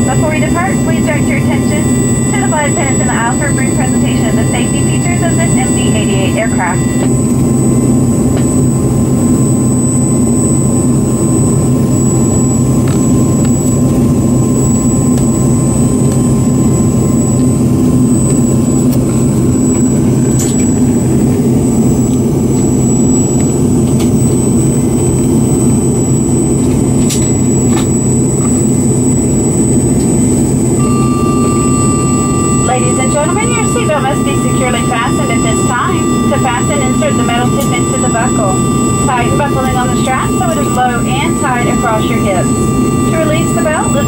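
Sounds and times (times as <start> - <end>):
jet engine low rumble: 0.0 - 44.0
thin high engine whine: 0.0 - 44.0.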